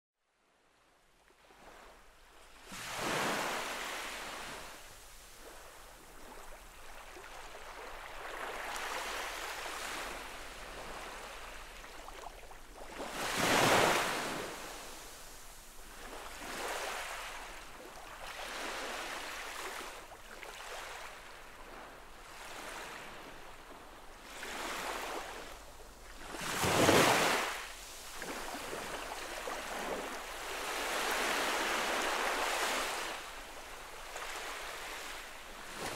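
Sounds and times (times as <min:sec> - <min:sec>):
small waves lapping on shore: 0:00.7 - 0:35.9.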